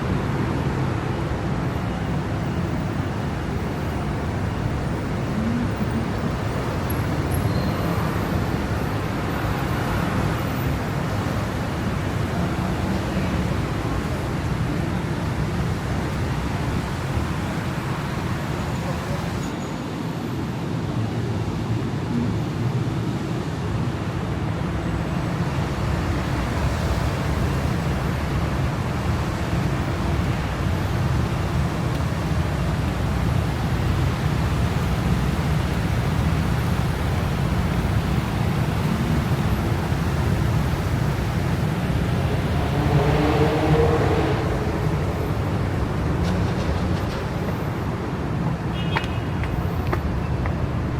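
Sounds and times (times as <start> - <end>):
city traffic passing: 0.0 - 50.9
tyre noise on wet streets: 0.0 - 50.9.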